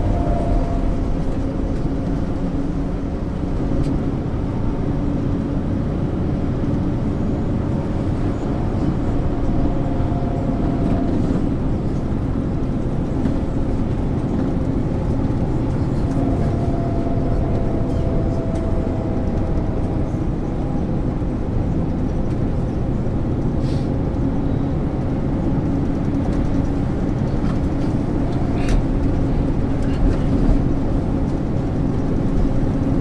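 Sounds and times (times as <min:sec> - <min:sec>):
bus diesel engine running: 0:00.0 - 0:33.0
road noise: 0:00.0 - 0:33.0.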